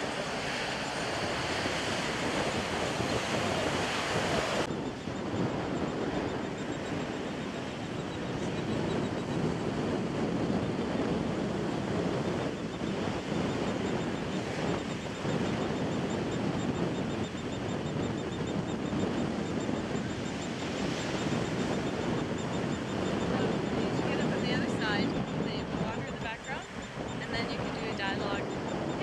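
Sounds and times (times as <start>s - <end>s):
surf washing: 0.0s - 4.7s, 5.3s - 29.0s
wind buffeting microphone: 0.0s - 29.0s.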